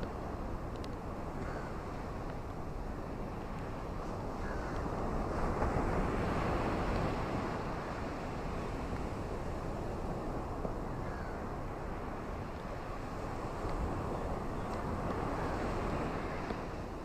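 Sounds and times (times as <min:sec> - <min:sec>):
ocean surf washing in: 0:00.0 - 0:17.0.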